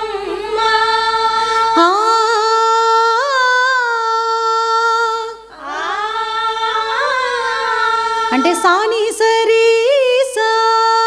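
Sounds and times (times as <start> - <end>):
woman singing a cappella: 0.0 - 11.0.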